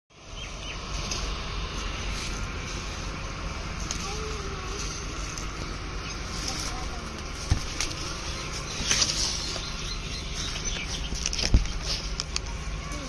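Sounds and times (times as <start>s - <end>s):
low rumble and hiss: 0.1s - 13.0s
faint rustles: 0.8s - 13.0s.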